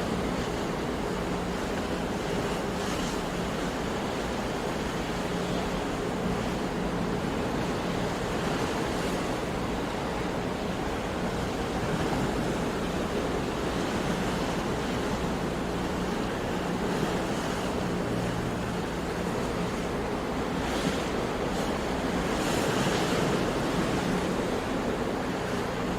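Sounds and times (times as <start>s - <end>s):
sea waves washing on shore: 0.0s - 25.9s.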